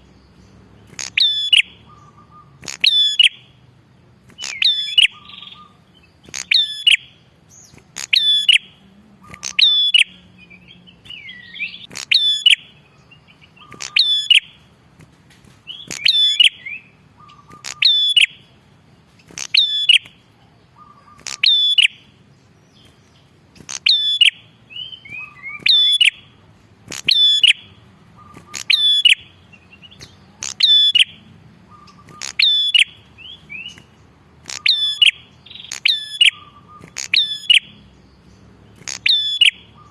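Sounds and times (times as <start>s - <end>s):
bird singing sharp high call: 0.0s - 3.6s, 4.3s - 14.7s, 15.6s - 18.6s, 19.2s - 39.9s
soft chattering bird notes: 0.0s - 39.9s.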